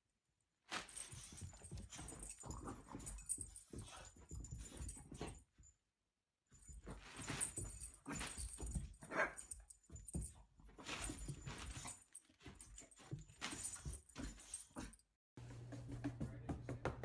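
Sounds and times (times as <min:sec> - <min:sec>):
irregular noises: 0:00.7 - 0:05.9, 0:06.5 - 0:17.0.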